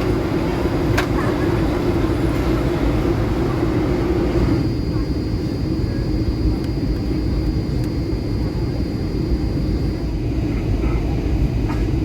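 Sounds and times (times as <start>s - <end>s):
faint high whine: 0.0s - 10.8s
low rumble of jet engines: 0.0s - 12.0s.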